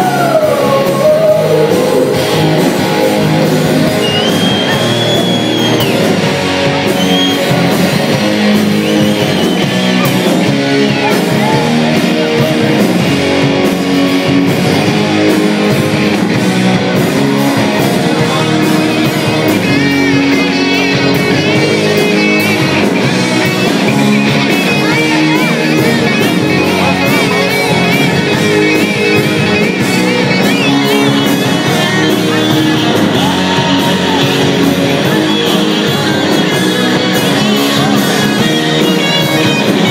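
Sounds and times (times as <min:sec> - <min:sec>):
rock band playing live: 0:00.0 - 0:39.9
wavering lead guitar line: 0:00.0 - 0:39.9.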